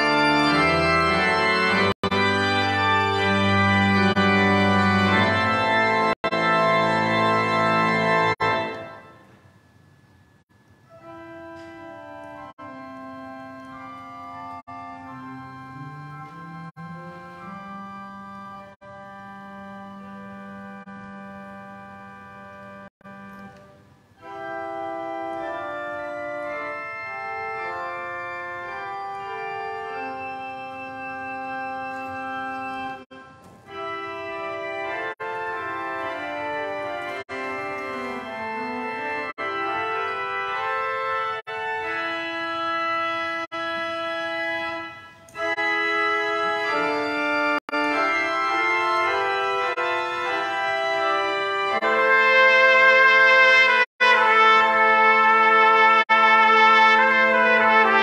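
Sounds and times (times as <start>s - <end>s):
church organ sustained chords: 0.0s - 58.0s.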